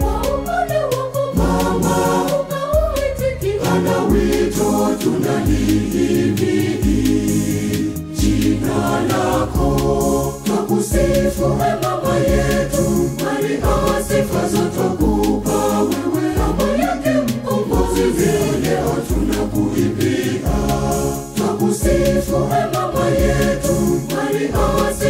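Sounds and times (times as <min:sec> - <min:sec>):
backing track with bass and beat: 0:00.0 - 0:25.0
choir singing a hymn in harmony: 0:00.0 - 0:25.0.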